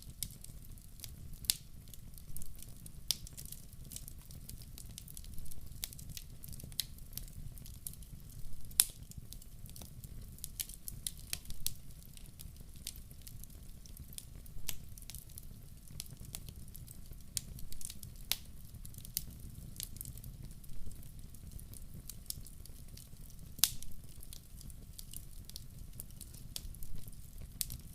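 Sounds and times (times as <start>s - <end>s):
log fire crackling: 0.0s - 27.9s.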